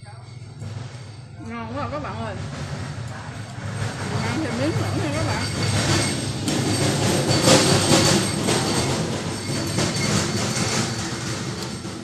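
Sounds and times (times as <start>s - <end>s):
loud rumbling noise: 0.4s - 12.0s.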